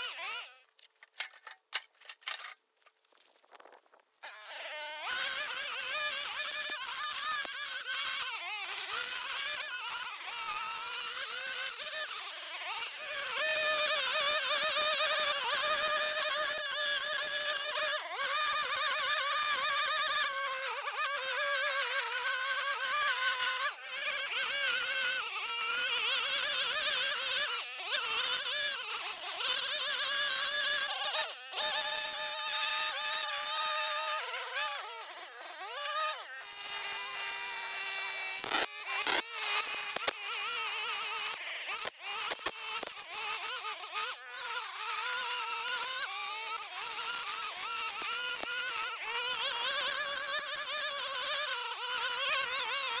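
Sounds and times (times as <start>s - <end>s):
string trimmer cutting grass: 0.0s - 53.0s.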